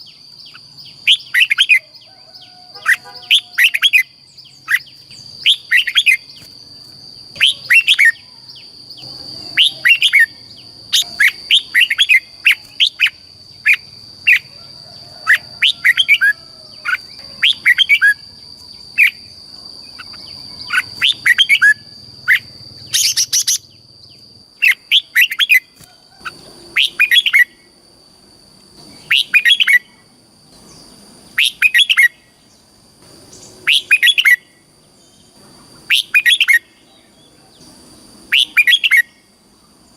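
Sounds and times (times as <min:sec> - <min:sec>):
bird singing rapid phrases: 0:00.0 - 0:14.5, 0:15.2 - 0:27.6, 0:28.8 - 0:29.9, 0:30.6 - 0:32.7, 0:33.3 - 0:39.2.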